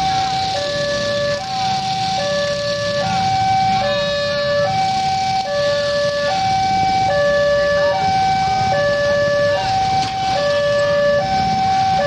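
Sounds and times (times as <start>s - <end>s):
motorcycle engines rumbling: 0.0s - 12.0s
two-tone crossing alarm: 0.0s - 12.0s.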